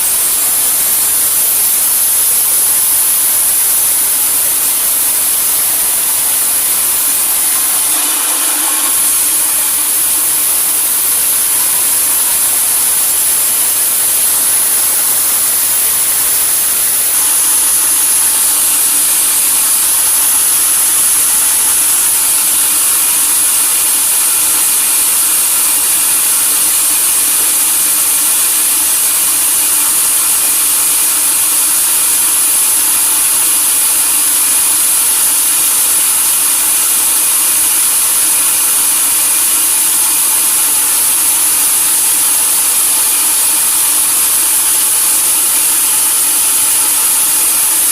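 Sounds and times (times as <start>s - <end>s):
sawmill saw cutting log: 0.0s - 47.9s.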